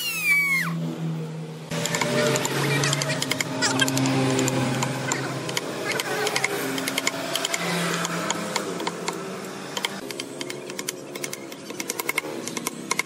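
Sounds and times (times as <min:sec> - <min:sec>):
carving tools tapping wood: 0:01.9 - 0:13.0.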